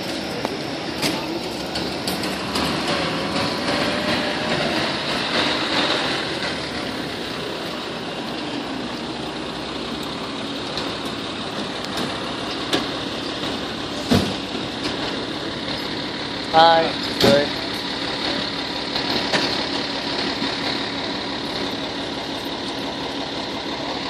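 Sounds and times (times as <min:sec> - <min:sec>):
diesel engine running low: 0:00.0 - 0:24.0.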